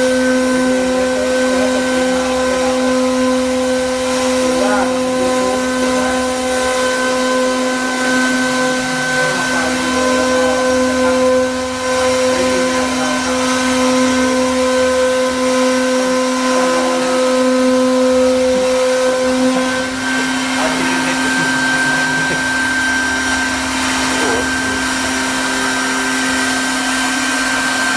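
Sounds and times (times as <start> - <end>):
spindle motor whine: 0.0 - 27.9.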